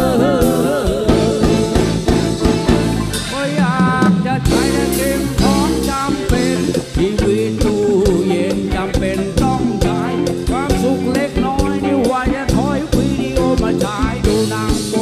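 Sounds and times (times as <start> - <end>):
bass guitar: 0.0 - 15.0
drum kit beat: 0.0 - 15.0
electric guitar: 0.0 - 15.0
man singing: 0.0 - 15.0.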